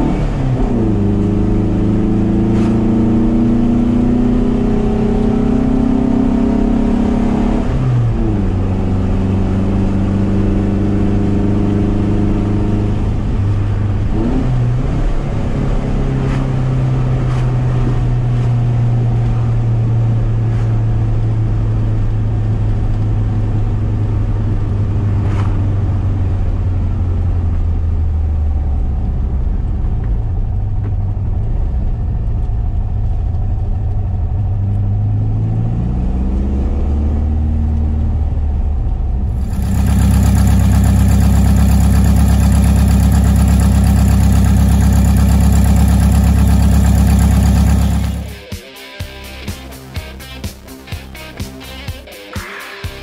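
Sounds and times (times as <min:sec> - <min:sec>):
car engine from inside cabin: 0:00.0 - 0:48.5
car engine running outside: 0:00.0 - 0:53.0.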